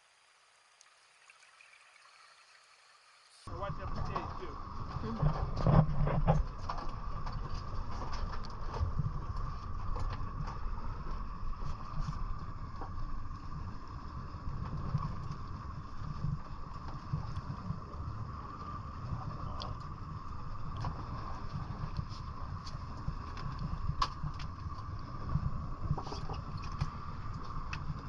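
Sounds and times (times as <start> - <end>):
steady low rumble: 3.5 - 28.0.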